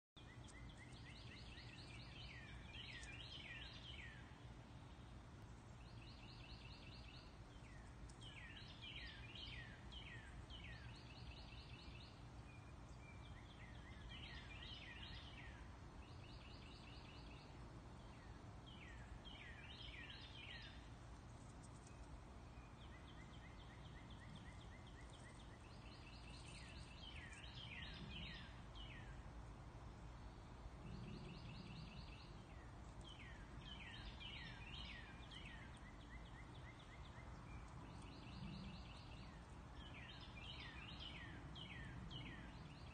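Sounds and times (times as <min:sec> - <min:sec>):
bird singing: 0:00.2 - 0:29.6, 0:30.2 - 0:42.9
faint low rumble: 0:00.2 - 0:42.9.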